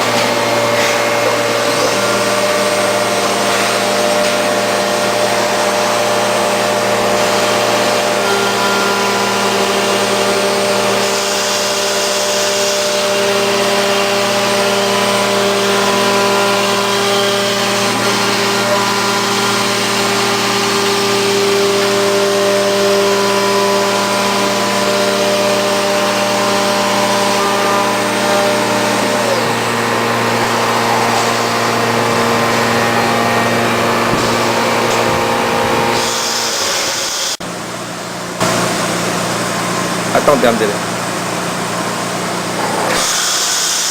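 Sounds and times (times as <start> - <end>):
cnc machine spindle whining: 0.0 - 43.9.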